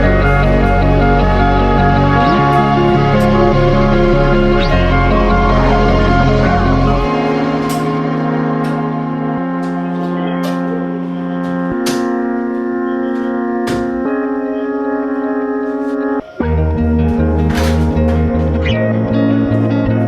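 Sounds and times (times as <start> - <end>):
organ-like keyboard chords: 0.0 - 20.0.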